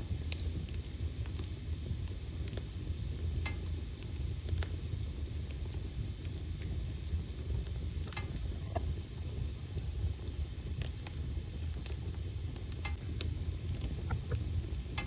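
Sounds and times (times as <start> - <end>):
fire crackles and pops: 0.0 - 15.0
fire rumbling in fireplace: 0.0 - 15.0.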